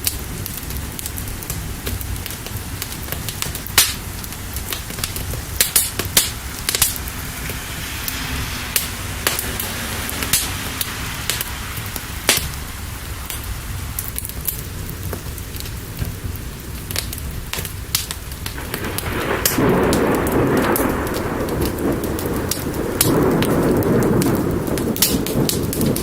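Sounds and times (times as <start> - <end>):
fire crackling with pops: 0.0 - 26.0
steady rain: 0.0 - 26.0
thunder rumbling: 0.0 - 26.0.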